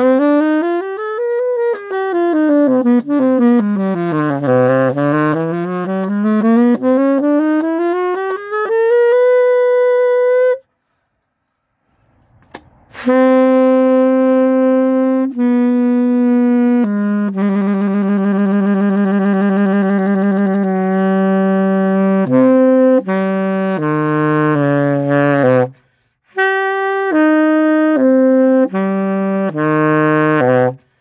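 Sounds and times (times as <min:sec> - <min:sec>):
saxophone playing: 0:00.0 - 0:10.9, 0:12.9 - 0:31.0.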